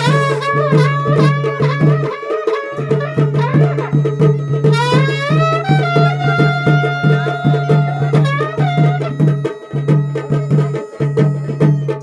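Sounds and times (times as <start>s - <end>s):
drums beating: 0.0s - 12.0s
reed wind instrument melody: 0.0s - 12.0s.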